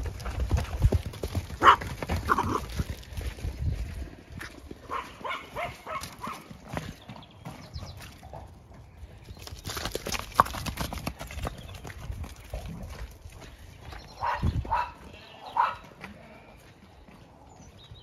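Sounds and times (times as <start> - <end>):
horse hooves on soft ground: 0.0 - 18.0.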